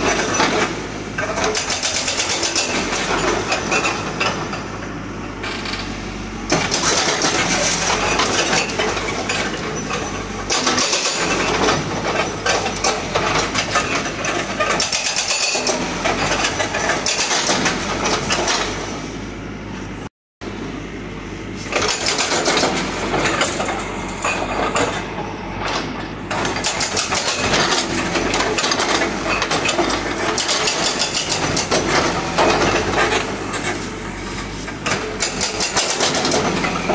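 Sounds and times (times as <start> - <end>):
hydraulic breaker hammering rubble: 0.0 - 4.8, 5.4 - 18.9, 21.6 - 36.9
diesel engine running: 0.0 - 36.9.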